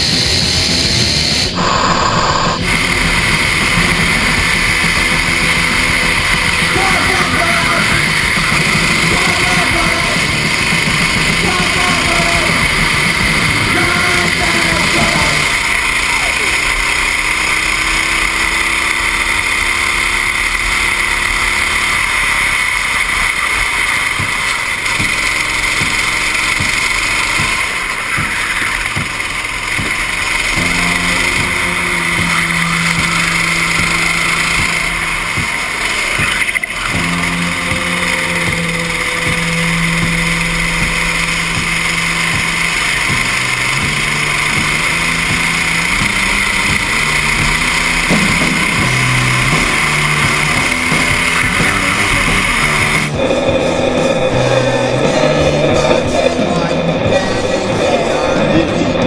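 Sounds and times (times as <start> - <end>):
go-kart engine: 0.0 - 59.0
steady rushing noise: 0.0 - 59.0.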